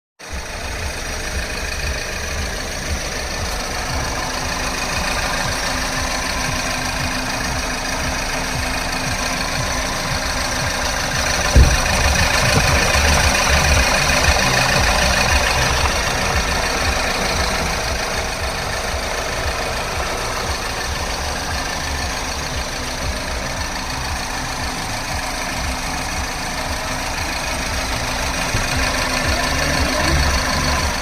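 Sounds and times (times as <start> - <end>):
car engine idling: 0.2 - 31.0.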